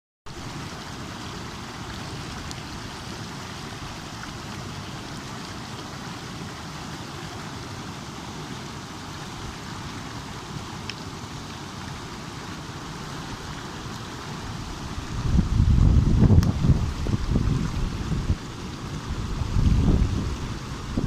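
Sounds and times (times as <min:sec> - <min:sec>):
water babbling in a stream: 0:00.3 - 0:21.0.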